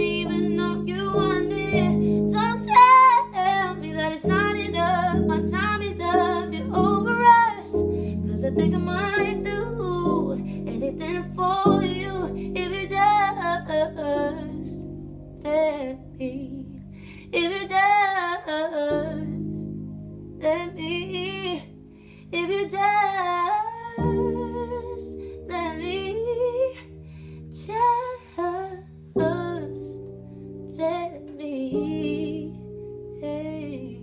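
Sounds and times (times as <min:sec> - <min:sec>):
sustained backing chords: 0:00.0 - 0:34.0.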